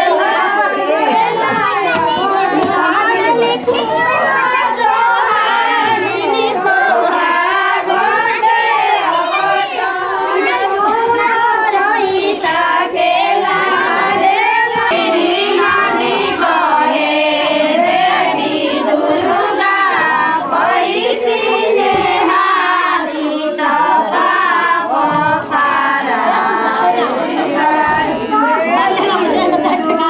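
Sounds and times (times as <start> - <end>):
group of women singing: 0.0 - 30.0.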